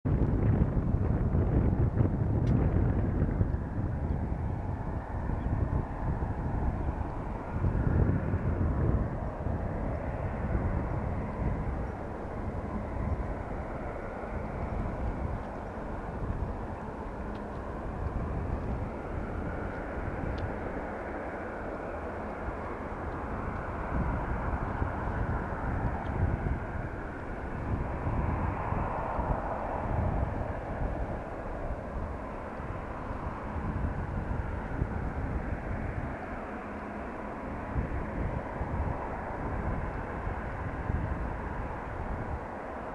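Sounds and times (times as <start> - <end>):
jet engines rumbling: 0.1 - 42.9.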